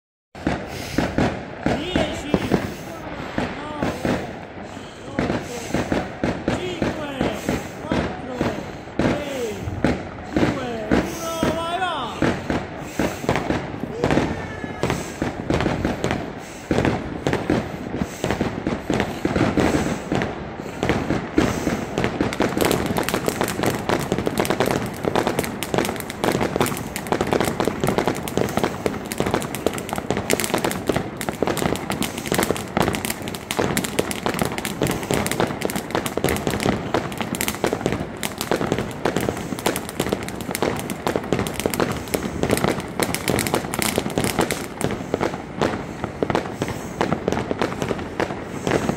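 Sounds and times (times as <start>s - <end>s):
firecrackers bursting: 0.4s - 48.9s.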